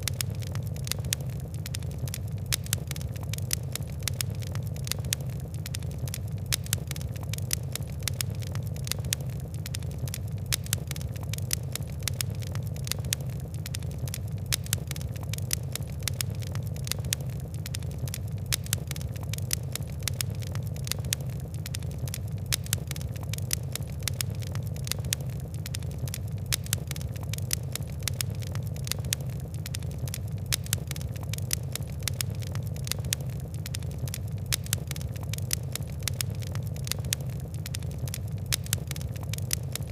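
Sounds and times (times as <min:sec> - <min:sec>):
fire crackling and popping: 0:00.0 - 0:39.9
low rumble of burning: 0:00.0 - 0:39.9.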